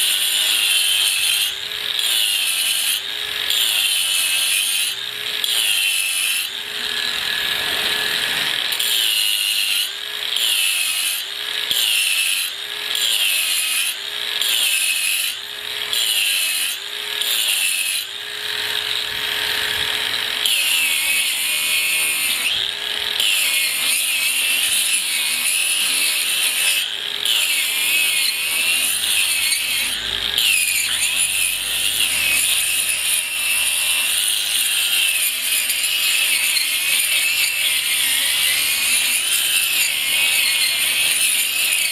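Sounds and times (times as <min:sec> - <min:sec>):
angle grinder grinding concrete: 0:00.0 - 0:41.9.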